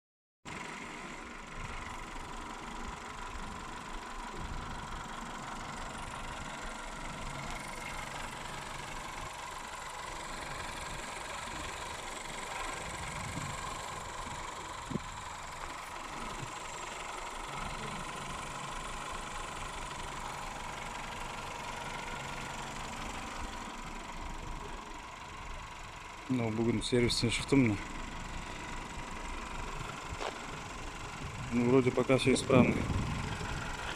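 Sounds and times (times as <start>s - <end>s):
car engine idling with whine: 0.5s - 33.9s.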